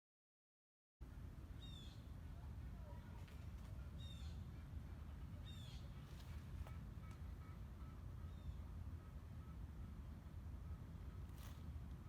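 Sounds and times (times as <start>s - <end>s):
low steady rumble: 1.0s - 12.0s.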